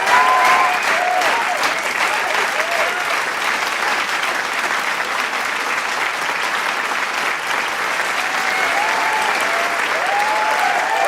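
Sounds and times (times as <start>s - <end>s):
crowd applauding and cheering: 0.0s - 11.0s.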